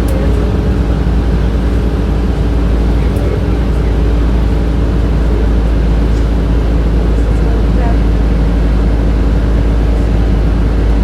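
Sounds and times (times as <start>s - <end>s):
bus engine drone: 0.0s - 11.0s
road rumble: 0.0s - 11.0s.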